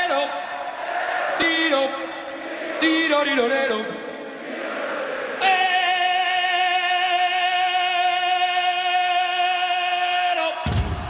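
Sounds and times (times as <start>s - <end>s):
crowd singing: 0.0s - 11.0s.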